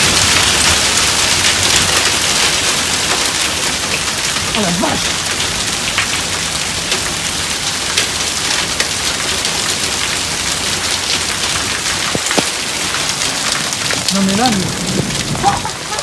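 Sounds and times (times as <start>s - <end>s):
hailstones ticking: 0.0s - 16.0s
heavy rain hissing: 0.0s - 16.0s.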